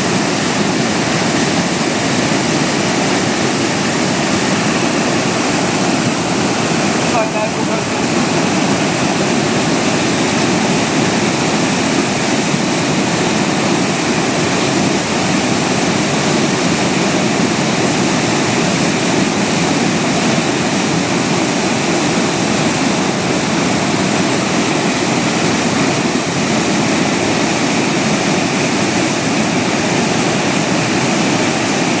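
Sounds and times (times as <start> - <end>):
rushing floodwater: 0.0 - 32.0.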